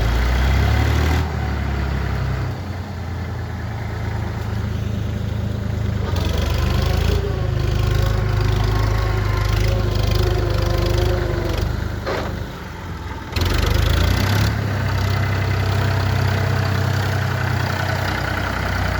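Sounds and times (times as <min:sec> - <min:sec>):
tractor engine droning: 0:00.0 - 0:18.9.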